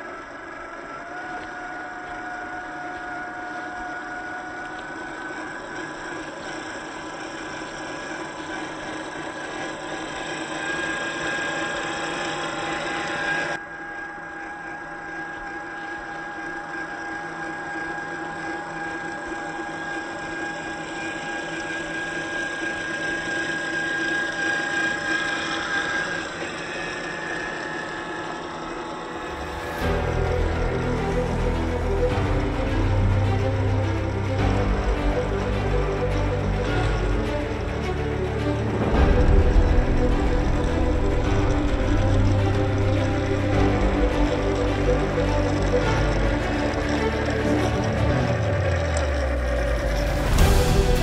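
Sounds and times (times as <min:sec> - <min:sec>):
electric motor whine: 0:00.0 - 0:51.0.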